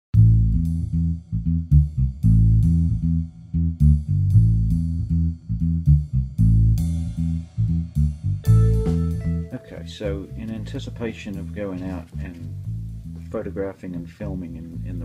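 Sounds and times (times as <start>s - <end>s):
instrumental background music: 0.2s - 15.0s
plucked bass guitar line: 0.2s - 15.0s.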